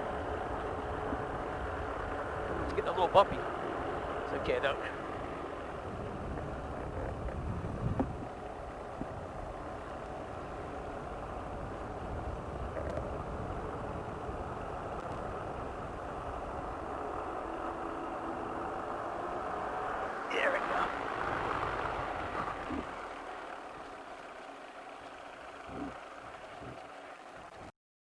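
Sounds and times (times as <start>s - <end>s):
low rumble: 0.0s - 27.7s
paramotor engine running: 0.0s - 27.7s.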